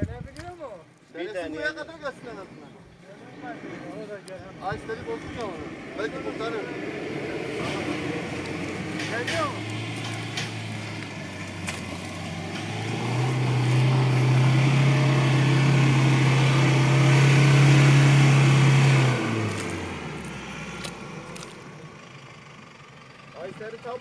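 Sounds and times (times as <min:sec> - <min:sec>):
car engine revving: 0:03.4 - 0:22.7.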